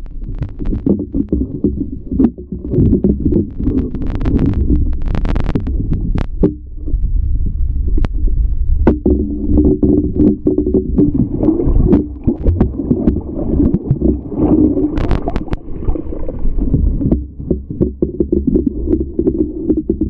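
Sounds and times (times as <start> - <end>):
muffled underwater rumble: 0.0 - 20.0
water bubbling: 0.0 - 20.0.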